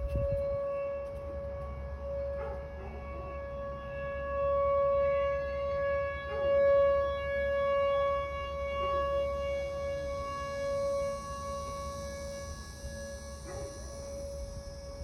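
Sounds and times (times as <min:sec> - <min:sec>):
outdoor warning siren: 0:00.0 - 0:15.0.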